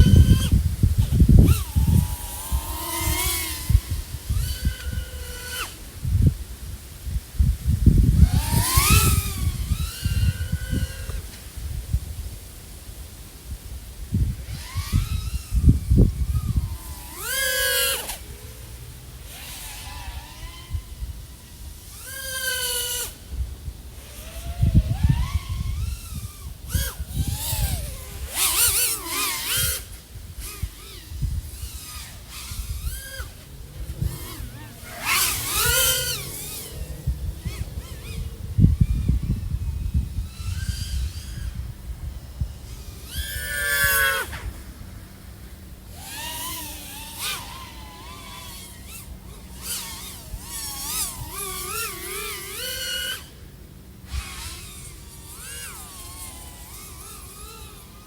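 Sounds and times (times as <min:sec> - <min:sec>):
low wind buffeting: 0:00.0 - 0:22.0, 0:22.7 - 0:52.3
drone motors whining: 0:00.0 - 0:58.0.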